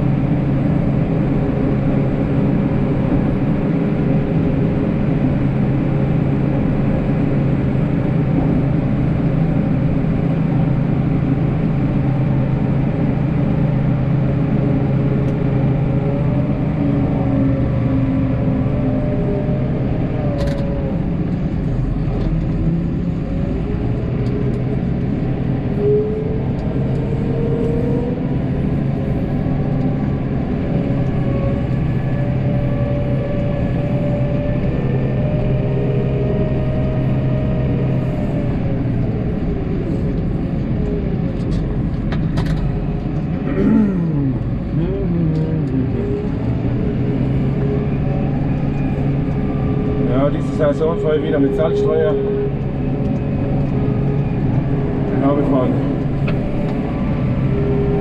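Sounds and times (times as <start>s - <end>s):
snowplow engine running: 0.0s - 58.0s.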